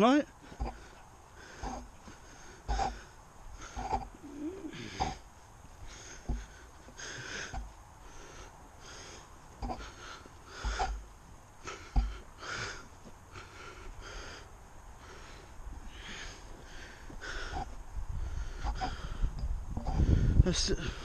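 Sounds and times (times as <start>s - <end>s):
heavy breathing: 0.3s - 21.0s.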